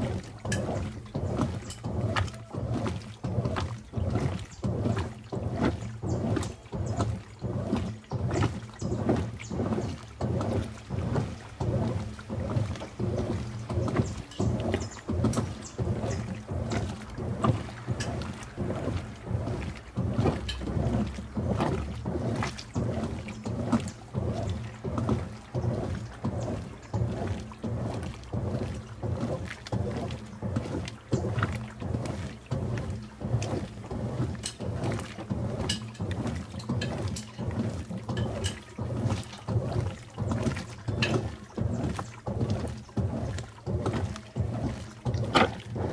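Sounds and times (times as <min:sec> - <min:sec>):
low motor hum: 0:00.0 - 0:45.9
washing machine sloshing: 0:00.0 - 0:45.9.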